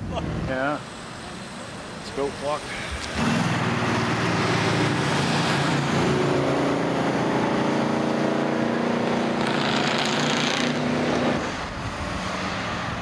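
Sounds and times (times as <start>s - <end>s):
car engines droning past: 0.1s - 13.0s.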